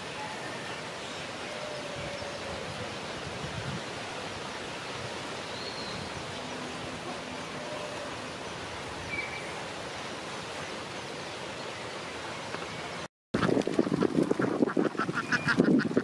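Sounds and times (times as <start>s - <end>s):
outdoor hiss-like rush: 0.0s - 16.0s.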